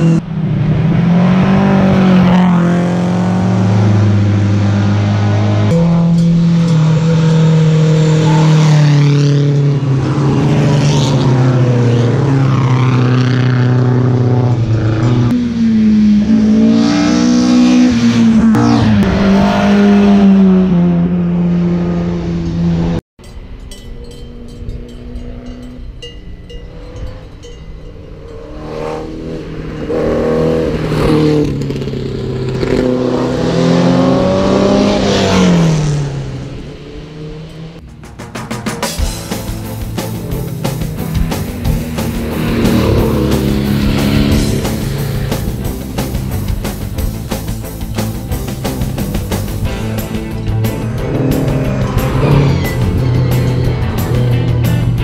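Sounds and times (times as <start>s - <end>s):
racing car engine revving: 0.0s - 23.0s, 28.1s - 55.0s.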